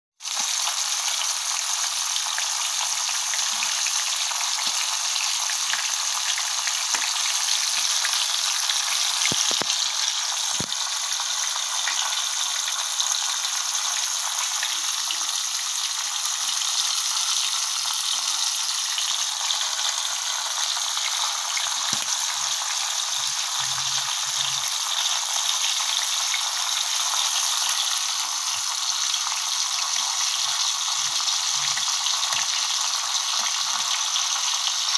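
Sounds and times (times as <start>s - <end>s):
fish sizzling in oil: 0.2s - 34.9s.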